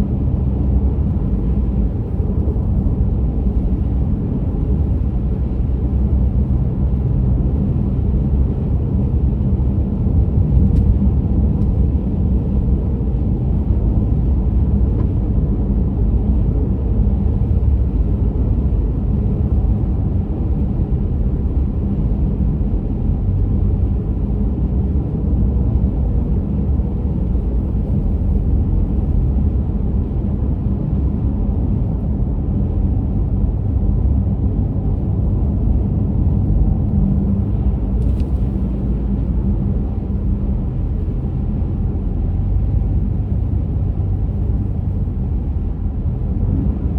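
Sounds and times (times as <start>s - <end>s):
car driving on road: 0.0s - 46.9s.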